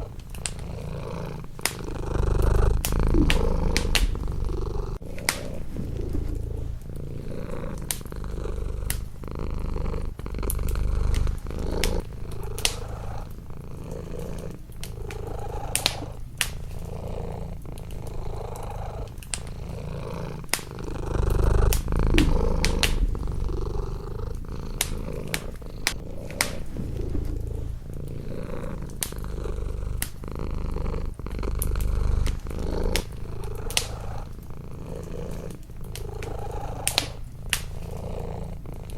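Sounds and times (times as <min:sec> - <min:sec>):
cat purring: 0:00.0 - 0:38.9
wood fire crackling: 0:00.0 - 0:38.9.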